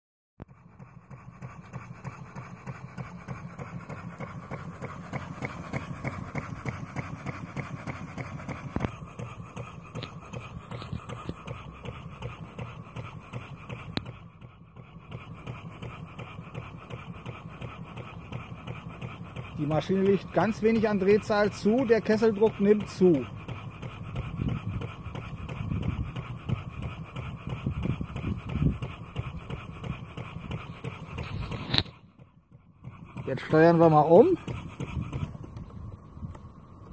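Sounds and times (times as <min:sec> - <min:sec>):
steam engine exhaust chuffing: 0:00.4 - 0:36.9.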